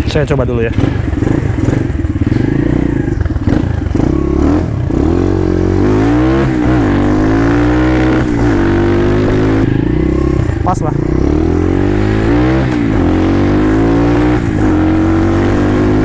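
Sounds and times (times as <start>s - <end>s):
motorbike engine accelerating: 0.0s - 16.0s.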